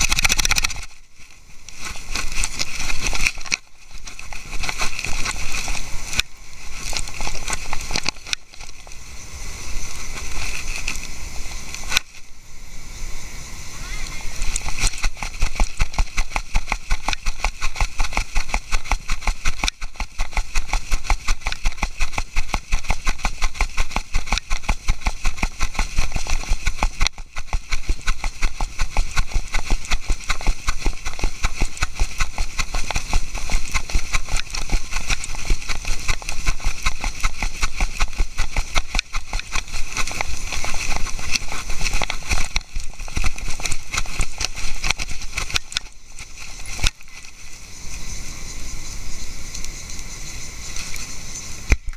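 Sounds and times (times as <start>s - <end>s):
camera knocking and rubbing: 0.0s - 1.0s, 1.7s - 9.0s, 9.9s - 11.1s, 14.4s - 47.4s.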